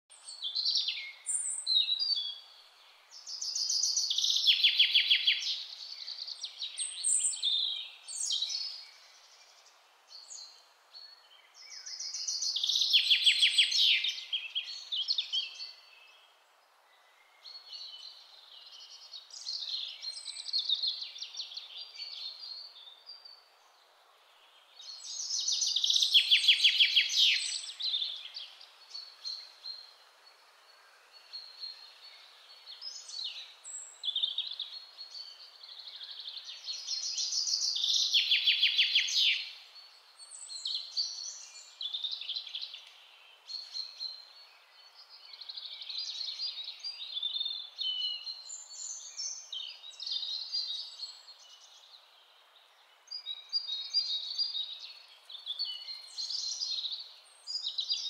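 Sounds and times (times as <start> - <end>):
faint background hiss: 0.1 - 58.0
songbirds singing: 0.1 - 58.0.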